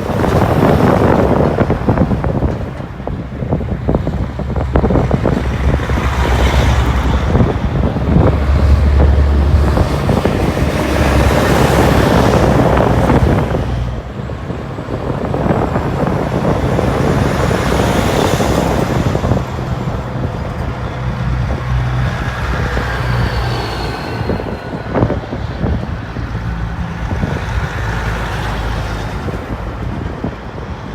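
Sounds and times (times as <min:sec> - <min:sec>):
diesel trucks driving past: 0:00.0 - 0:30.9.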